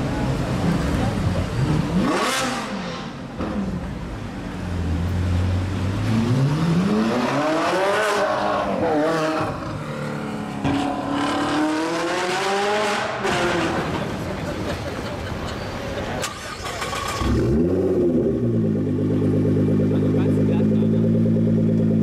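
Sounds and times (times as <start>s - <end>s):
car engine revving: 0.4s - 4.0s, 4.8s - 14.3s, 16.2s - 22.0s.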